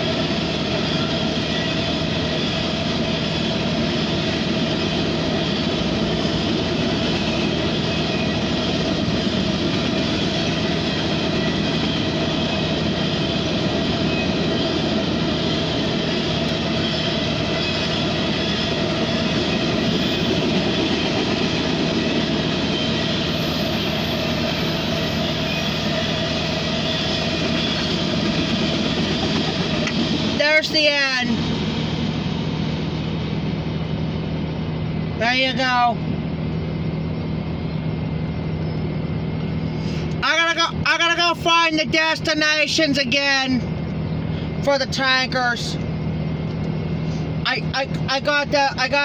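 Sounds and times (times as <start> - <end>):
freight train wheels rumbling on rail: 0.0 - 49.0.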